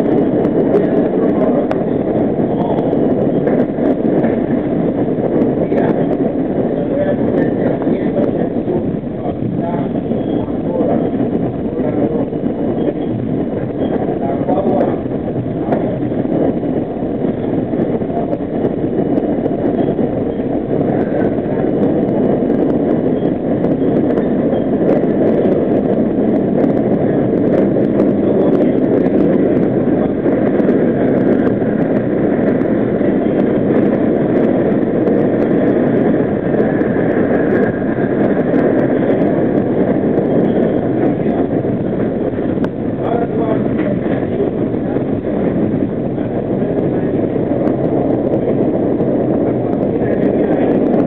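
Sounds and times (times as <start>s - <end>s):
faint high whine: 0.0s - 51.0s
subway train rumbling in tunnel: 0.0s - 51.0s.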